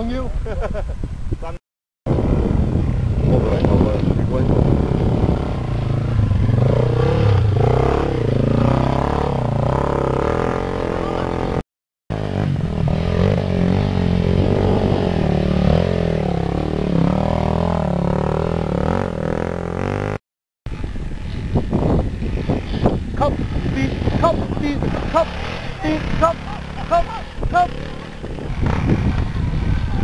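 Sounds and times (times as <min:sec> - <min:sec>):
dirt bike engines revving: 0:02.1 - 0:30.0.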